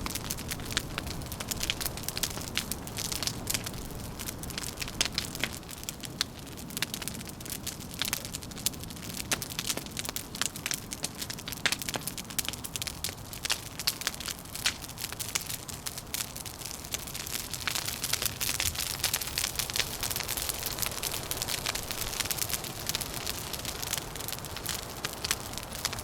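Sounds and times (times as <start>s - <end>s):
low wind rumble: 0.0s - 11.4s, 12.2s - 26.0s
wood fire crackling: 0.0s - 26.0s.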